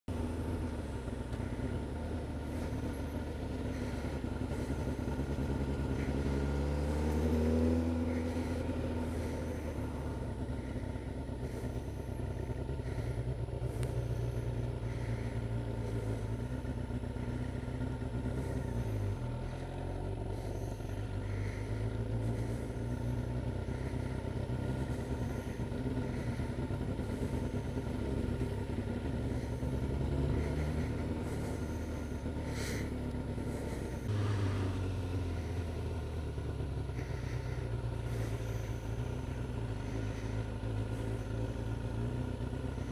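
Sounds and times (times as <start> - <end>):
motorcycle engine revving: 0.0 - 42.9
road and wind noise: 0.0 - 42.9.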